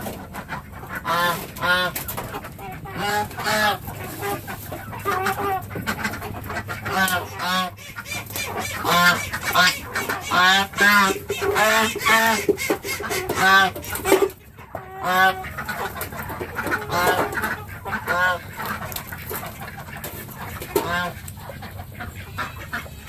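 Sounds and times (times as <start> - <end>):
chickens squawking: 0.0 - 23.0
ducks quacking: 0.0 - 23.0.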